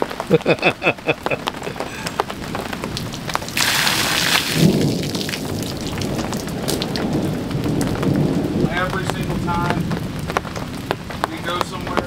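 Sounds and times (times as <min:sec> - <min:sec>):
raindrops ticking: 0:00.0 - 0:12.0
steady rain: 0:00.0 - 0:12.0
thunder rumbling: 0:00.0 - 0:12.0.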